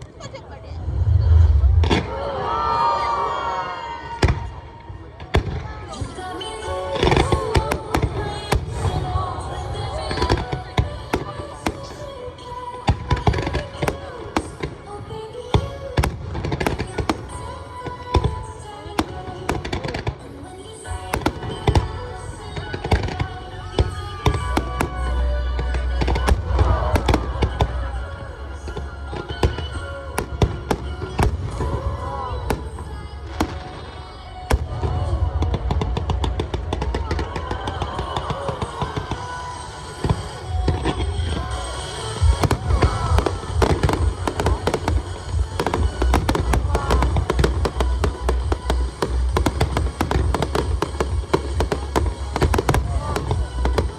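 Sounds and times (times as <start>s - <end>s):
fireworks bangs: 0.3s - 53.9s
music over loudspeakers: 5.3s - 53.9s.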